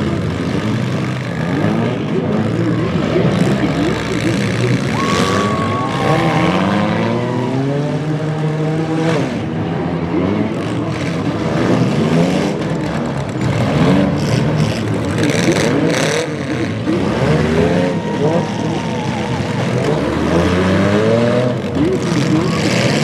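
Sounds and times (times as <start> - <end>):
car engines revving: 0.0 - 23.0
cars ramming each other: 0.0 - 23.0.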